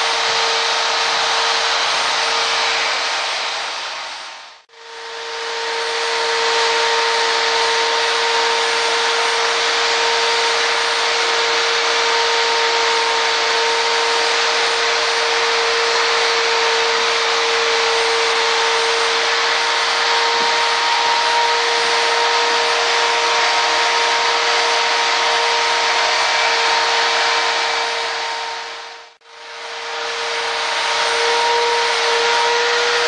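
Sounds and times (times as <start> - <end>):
polishing machine motor hum: 0.0 - 4.1, 4.7 - 33.0
loud rubbing hiss: 0.0 - 4.5, 5.4 - 33.0.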